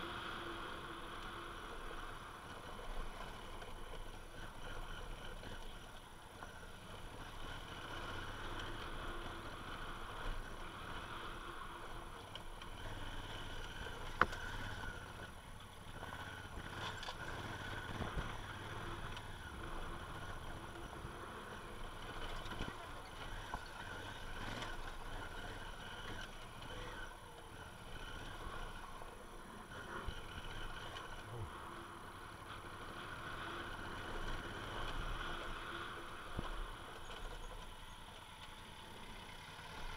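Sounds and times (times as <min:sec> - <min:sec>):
motorcycle engine running: 0:00.0 - 0:39.9
wind and tyres on gravel: 0:00.0 - 0:39.9.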